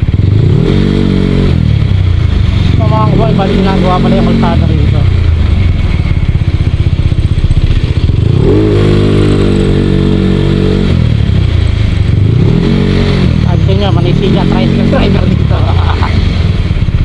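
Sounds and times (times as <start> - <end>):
scooter engine revving: 0.0 - 17.0.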